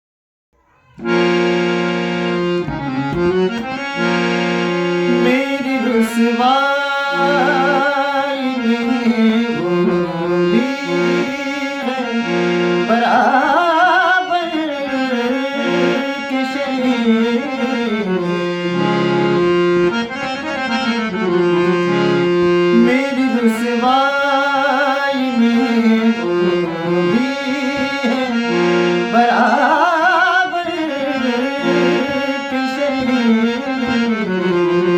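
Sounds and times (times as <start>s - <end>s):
person singing with vibrato: 0.6s - 34.9s
held chords on reed keyboard: 1.0s - 34.9s.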